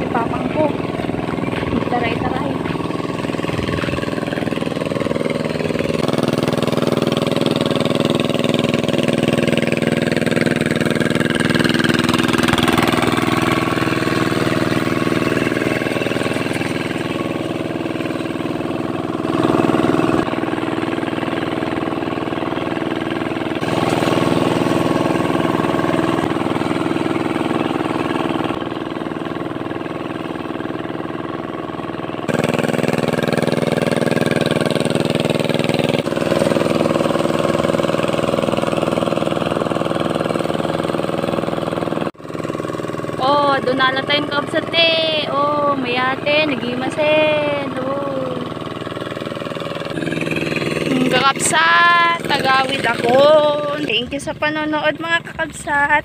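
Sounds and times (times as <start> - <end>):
hand tractor engine running: 0.0 - 56.0.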